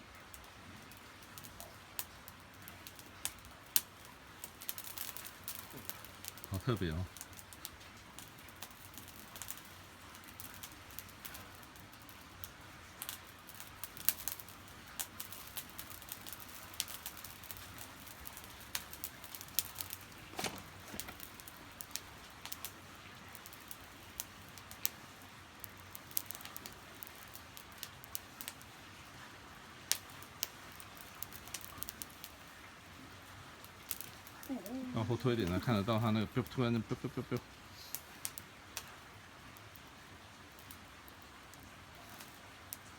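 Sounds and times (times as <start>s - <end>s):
low steady hiss: 0.0s - 42.9s
wood fire crackling and popping: 0.0s - 42.9s.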